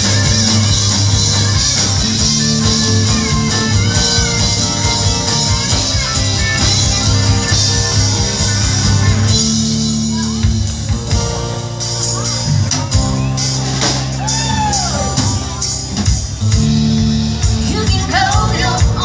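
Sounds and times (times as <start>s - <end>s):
live band playing through loudspeakers: 0.0s - 19.0s.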